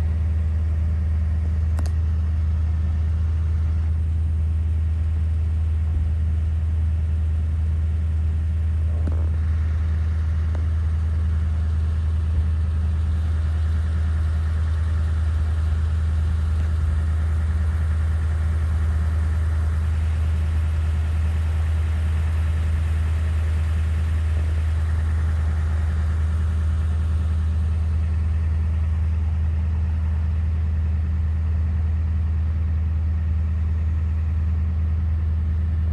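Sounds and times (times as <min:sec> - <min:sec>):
low engine hum: 0:00.0 - 0:35.9.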